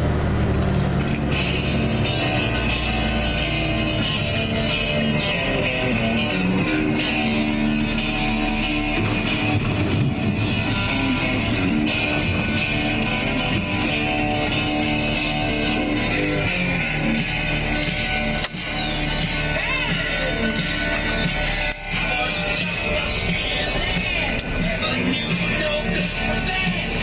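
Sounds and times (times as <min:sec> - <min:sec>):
rock music with guitar on radio: 0:00.9 - 0:27.0.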